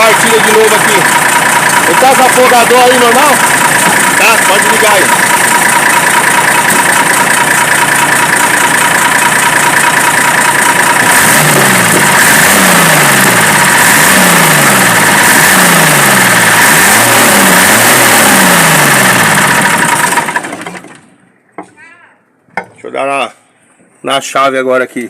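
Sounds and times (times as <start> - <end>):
diesel truck engine revving: 0.0 - 21.2.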